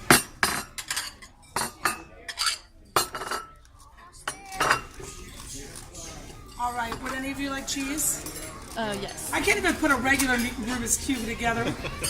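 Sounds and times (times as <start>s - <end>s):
dishes and cutlery clinking: 0.0s - 12.0s.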